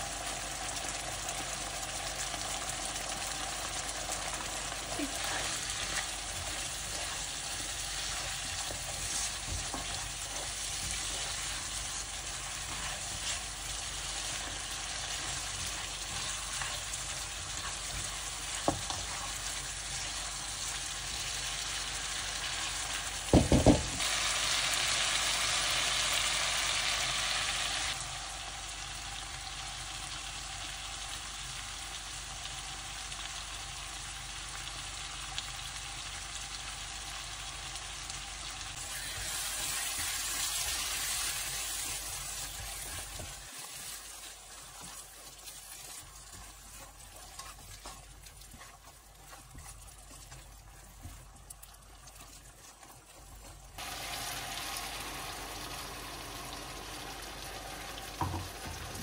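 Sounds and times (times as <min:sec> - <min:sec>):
stirring in a pan: 0:00.0 - 0:28.1, 0:38.7 - 0:59.0
curry sizzling in a pan: 0:00.0 - 0:59.0.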